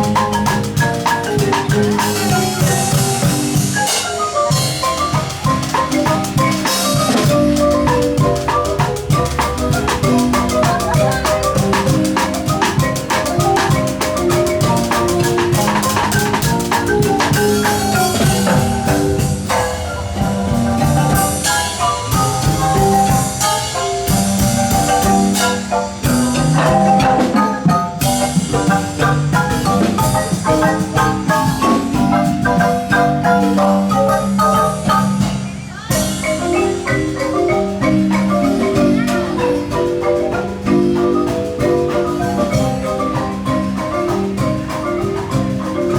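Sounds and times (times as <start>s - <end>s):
marimba mallet runs: 0.0s - 45.9s.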